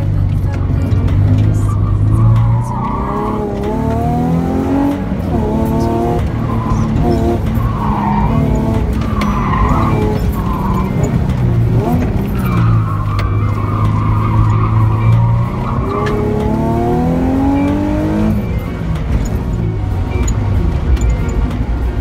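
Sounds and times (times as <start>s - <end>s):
car engine accelerating: 0.0s - 22.0s
tyres squealing: 0.5s - 20.4s.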